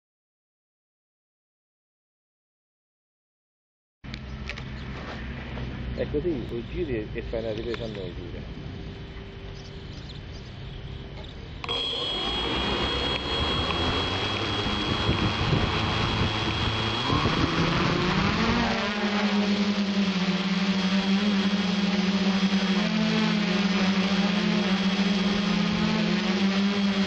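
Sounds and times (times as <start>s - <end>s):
quadcopter propellers humming: 4.1s - 27.0s.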